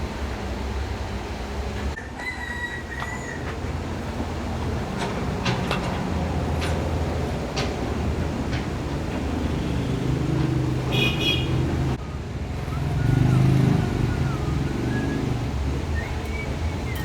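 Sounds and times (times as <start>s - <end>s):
traffic engines running: 0.0s - 17.0s.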